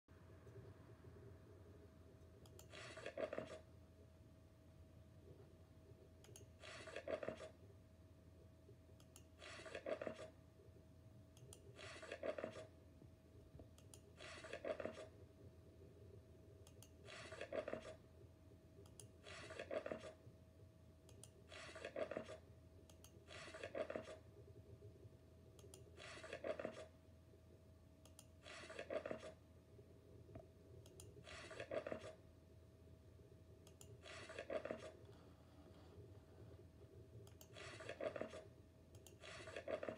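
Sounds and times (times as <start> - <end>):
faint steady hum: 0.1 - 39.9.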